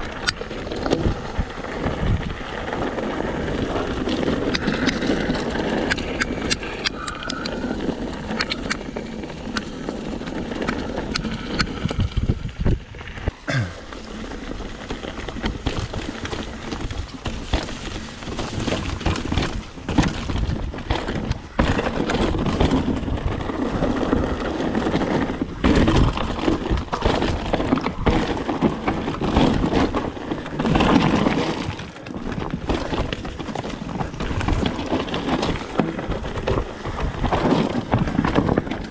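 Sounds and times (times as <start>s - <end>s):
bike knocks and rattles: 0.0s - 38.9s
bike tyre noise on rocky trail: 0.0s - 38.9s.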